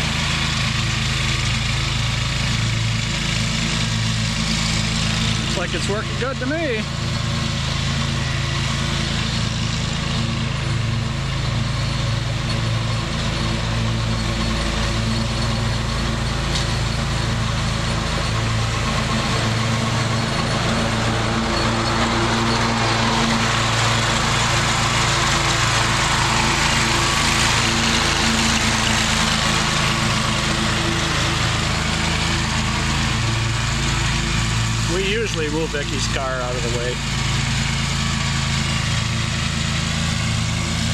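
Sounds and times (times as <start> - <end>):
mower blades rushing hiss: 0.0 - 40.9
riding mower engine drone: 0.0 - 40.9.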